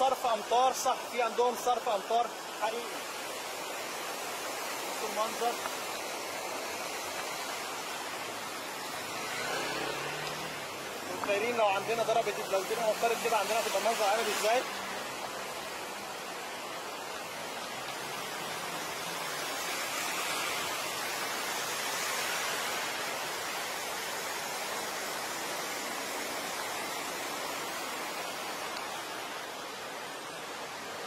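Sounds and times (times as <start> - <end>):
stormwater gushing and splashing: 0.0 - 31.0.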